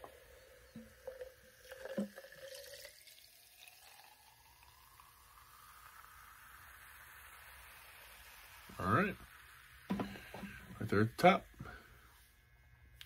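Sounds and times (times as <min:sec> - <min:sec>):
soda pouring into a glass jar: 0:00.0 - 0:11.6.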